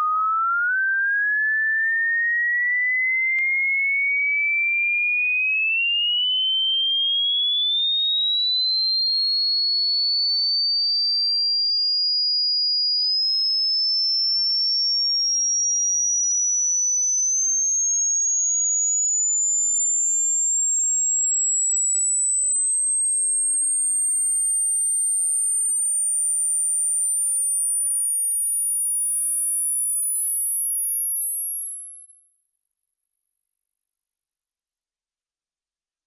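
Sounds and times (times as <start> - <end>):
rising sine test tone: 0.0 - 36.0.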